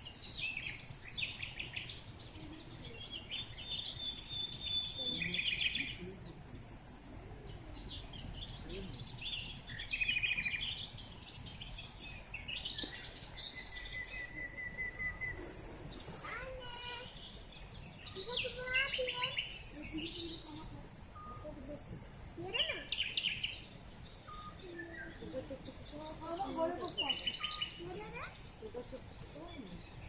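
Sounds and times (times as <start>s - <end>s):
songbirds singing and chirping: 0.0s - 30.0s.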